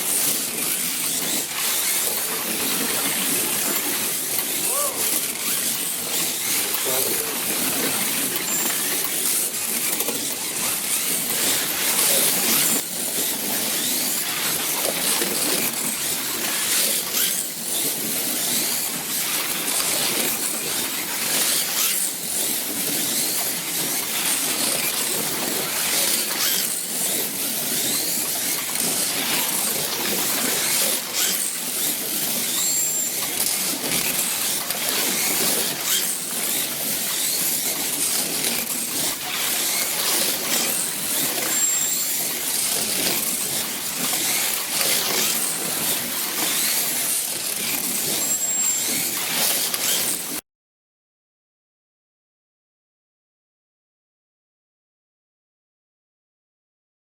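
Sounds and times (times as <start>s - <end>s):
slot cars whirring: 0.0s - 50.4s.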